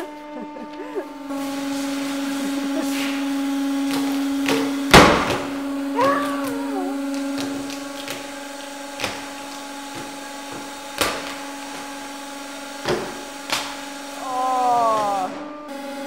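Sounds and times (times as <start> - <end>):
hydraulic press humming: 0.0 - 16.0.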